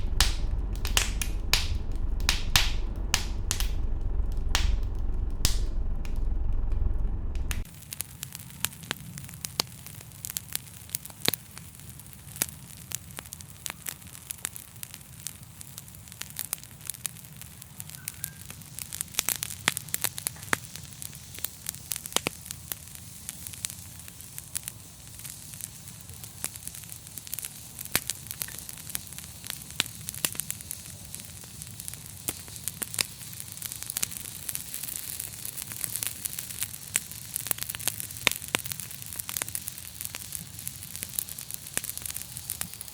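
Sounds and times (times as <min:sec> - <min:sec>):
fire crackling and popping: 0:00.0 - 0:17.9, 0:20.8 - 0:42.9.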